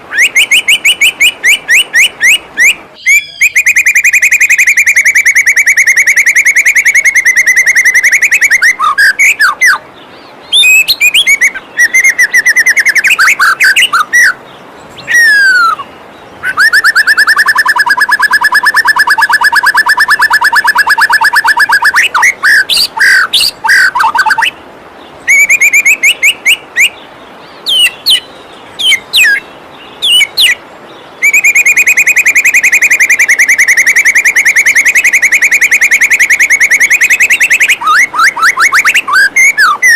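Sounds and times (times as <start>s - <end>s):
songbird trills and churrs: 0.1s - 39.9s.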